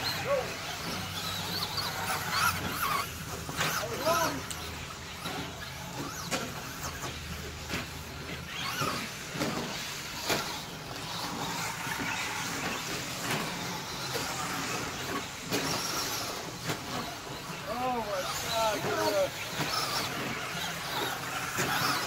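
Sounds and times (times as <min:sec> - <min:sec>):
electric motors whining: 0:00.0 - 0:22.0
tyres scrabbling on dirt: 0:00.0 - 0:22.0.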